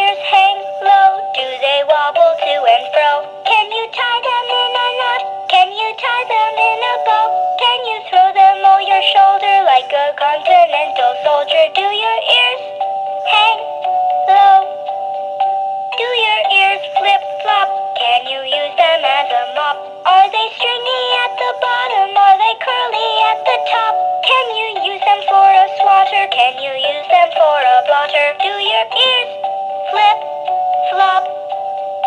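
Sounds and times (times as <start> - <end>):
toy playing electronic children's song: 0.0 - 32.0.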